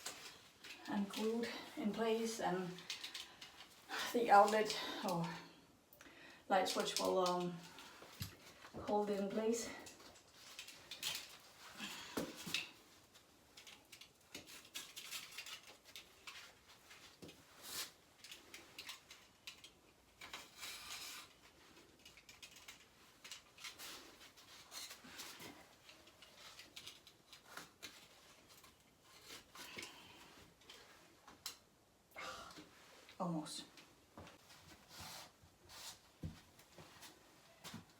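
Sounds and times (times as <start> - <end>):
wallcovering rustling and scraping: 0.0 - 5.6, 6.5 - 31.7, 32.6 - 37.9.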